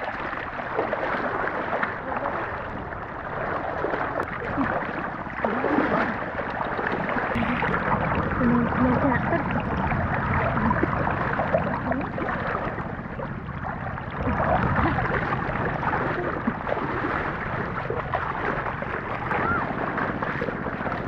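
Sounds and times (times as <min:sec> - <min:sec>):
water rushing and gurgling: 0:00.0 - 0:21.0
wind buffeting microphone: 0:00.0 - 0:21.0.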